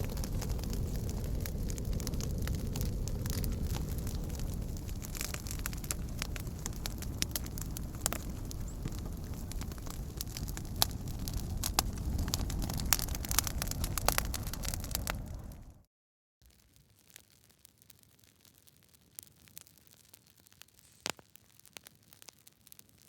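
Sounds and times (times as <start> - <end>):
wood fire crackling and popping: 0.0 - 15.8, 16.4 - 23.0.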